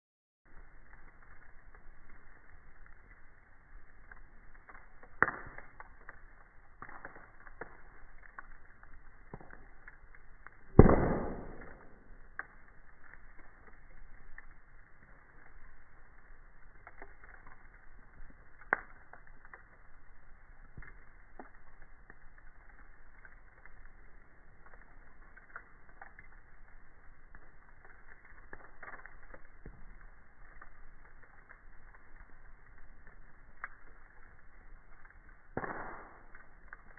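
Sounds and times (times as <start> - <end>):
campfire crackling: 0.5 - 36.9
fire popping: 0.5 - 36.9.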